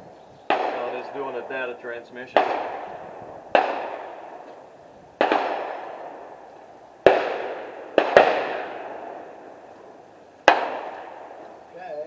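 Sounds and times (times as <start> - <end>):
gunshots with echo: 0.5 - 11.5.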